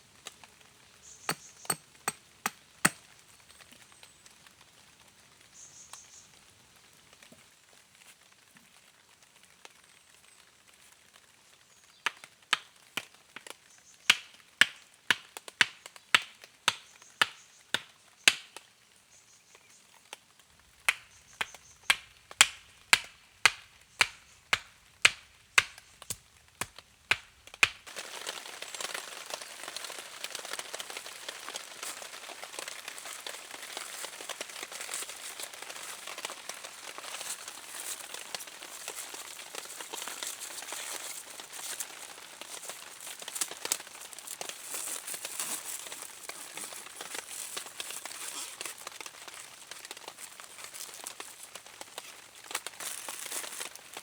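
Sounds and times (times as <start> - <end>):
dense crackling hiss: 0.0 - 54.0.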